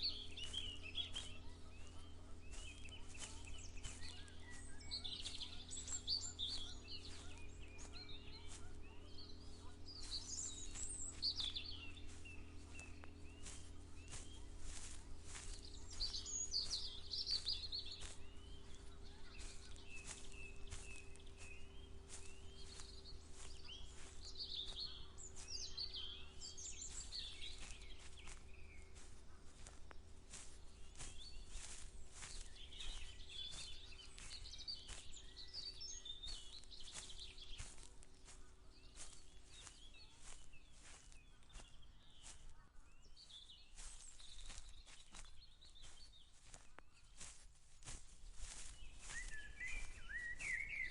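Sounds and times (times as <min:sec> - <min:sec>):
footsteps walking: 0:00.0 - 0:50.9
small birds chirping: 0:00.0 - 0:50.9.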